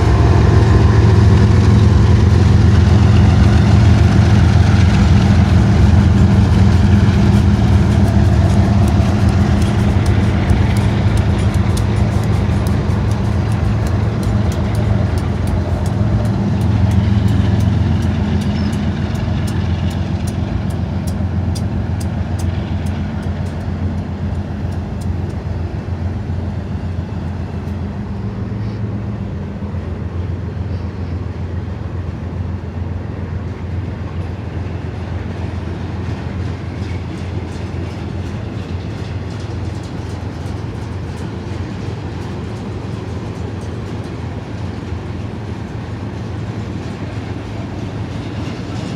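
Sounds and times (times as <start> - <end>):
train wheel clicks: 0.0 - 27.9, 34.1 - 48.9
freight train rumbling past: 0.0 - 48.9.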